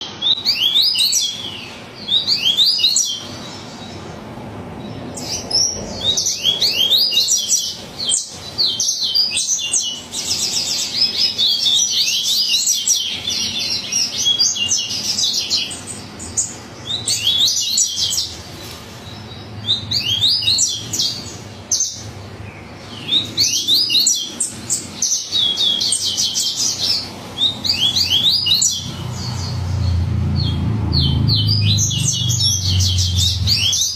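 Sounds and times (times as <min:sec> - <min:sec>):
bird singing high sweeping notes: 0:00.0 - 0:33.9.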